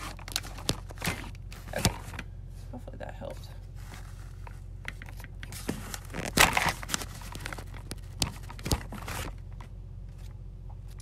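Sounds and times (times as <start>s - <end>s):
smartphone handling rustle: 0.0s - 2.8s, 3.6s - 11.0s.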